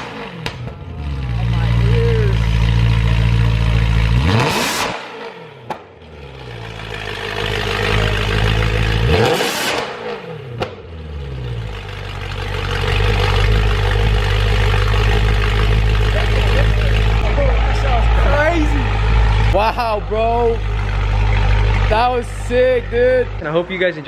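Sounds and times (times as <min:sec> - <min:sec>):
car engine revving: 0:00.0 - 0:24.0
exhaust cracking: 0:00.0 - 0:24.0.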